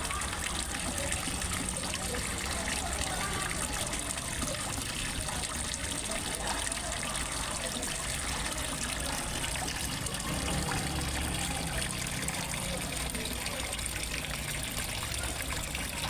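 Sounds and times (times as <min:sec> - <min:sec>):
water trickling into pond: 0:00.0 - 0:16.0.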